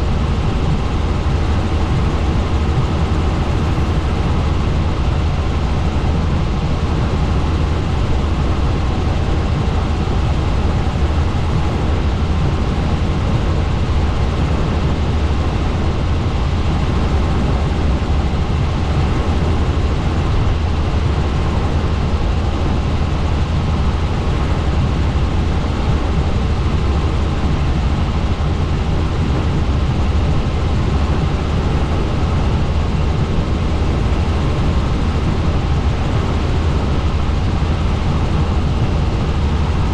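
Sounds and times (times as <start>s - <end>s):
helicopter drone from on board: 0.0s - 39.9s.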